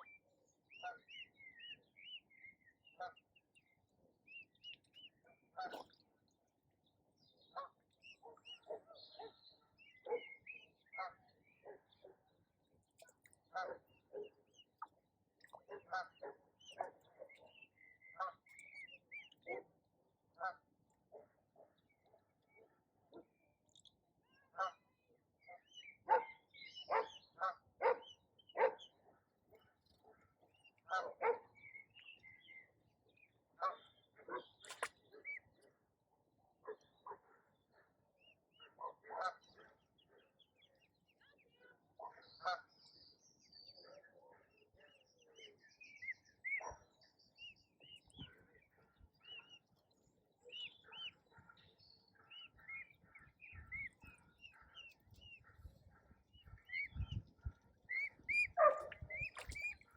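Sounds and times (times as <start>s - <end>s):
small birds chirping: 0.0s - 19.7s, 20.9s - 35.8s, 36.7s - 59.9s.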